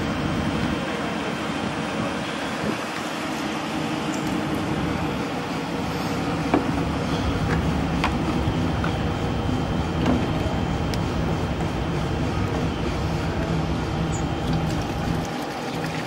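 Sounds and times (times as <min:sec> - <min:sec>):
machinery rumbling: 0:00.0 - 0:16.0.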